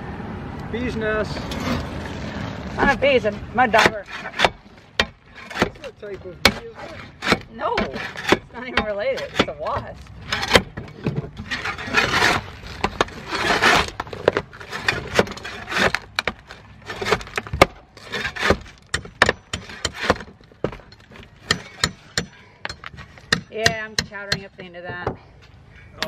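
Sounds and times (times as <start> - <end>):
shovel scraping roof shingles: 1.3 - 24.2.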